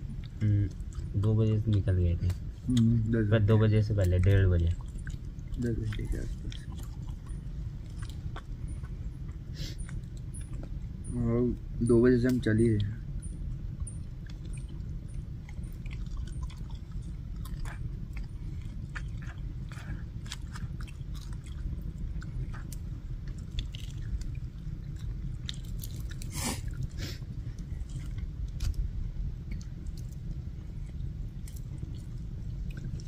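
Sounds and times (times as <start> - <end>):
person chewing crunchy food: 0.0 - 10.9, 14.0 - 33.0
low rumble: 0.0 - 33.0.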